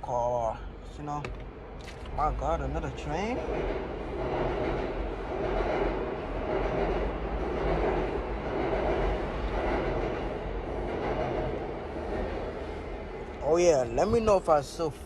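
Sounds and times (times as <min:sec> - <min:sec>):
train passing rumble: 0:00.0 - 0:15.0.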